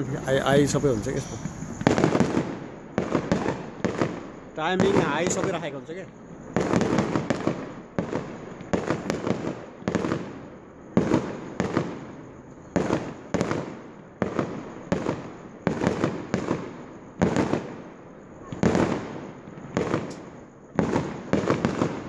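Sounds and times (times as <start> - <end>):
firework shells bursting with echo: 0.0 - 22.0.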